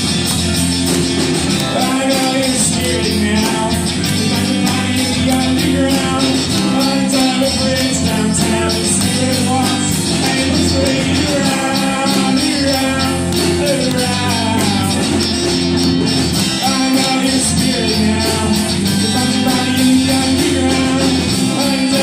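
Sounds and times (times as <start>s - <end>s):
electric bass: 0.0s - 22.0s
keyboard: 0.0s - 22.0s
percussion ticking: 0.0s - 22.0s
strummed acoustic guitar: 0.0s - 22.0s.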